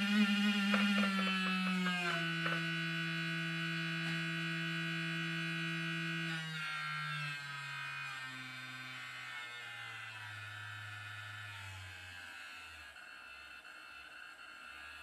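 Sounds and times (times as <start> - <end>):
vibration motor buzzing: 0.0 - 15.0.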